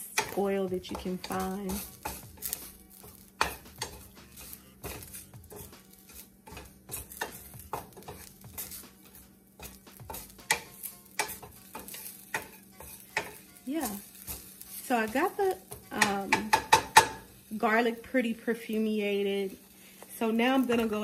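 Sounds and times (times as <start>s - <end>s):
garlic sizzling: 0.0s - 21.0s
spatula scraping skillet: 0.0s - 21.0s.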